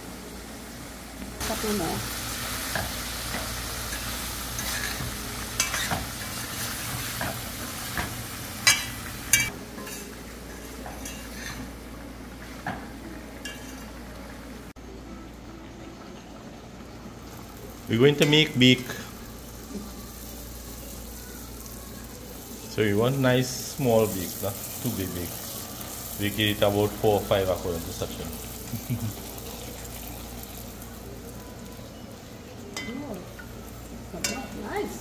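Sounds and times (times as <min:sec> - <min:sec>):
vegetables sizzling in a pot: 0:00.0 - 0:35.0.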